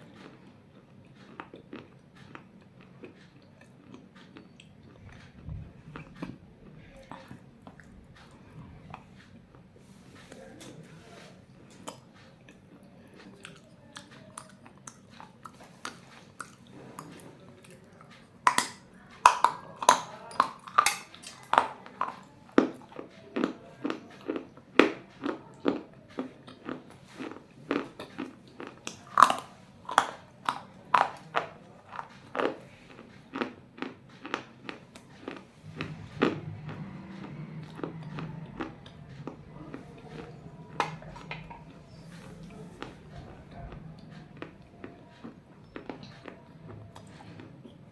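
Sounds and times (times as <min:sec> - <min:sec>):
baked clay being chewed: 0:00.0 - 0:47.9.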